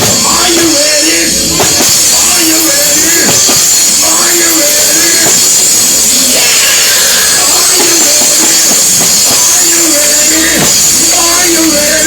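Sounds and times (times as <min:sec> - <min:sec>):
church music with drums: 0:00.0 - 0:12.0
person singing: 0:00.0 - 0:12.0.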